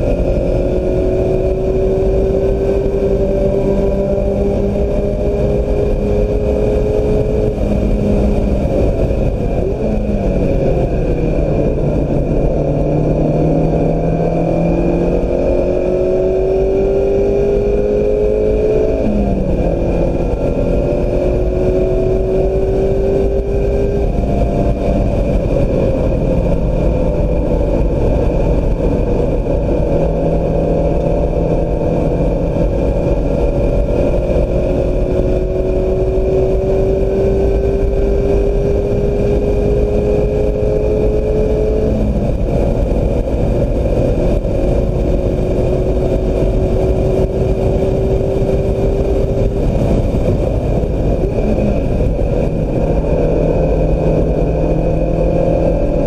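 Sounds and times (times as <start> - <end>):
car engine under hard driving: 0.0 - 56.0
road and wind noise: 0.0 - 56.0.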